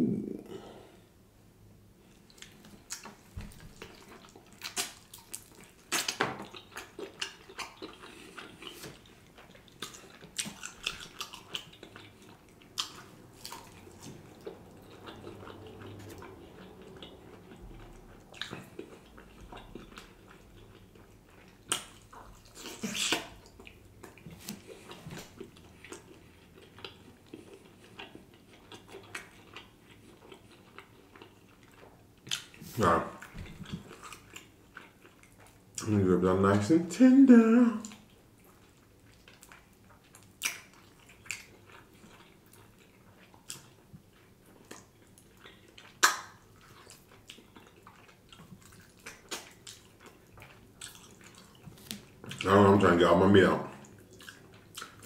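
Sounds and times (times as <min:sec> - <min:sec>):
wet chewing and smacking: 0:02.0 - 0:36.1, 0:37.8 - 0:55.0.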